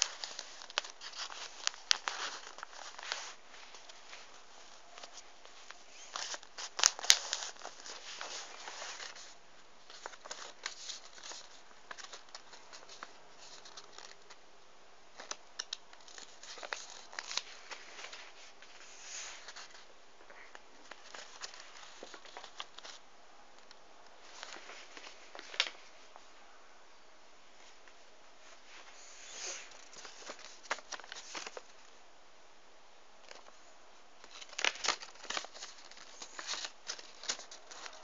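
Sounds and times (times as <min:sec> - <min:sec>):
paper rustling and crinkling: 0:00.0 - 0:14.4, 0:15.1 - 0:23.0, 0:23.6 - 0:26.3, 0:27.6 - 0:32.0, 0:33.2 - 0:38.0.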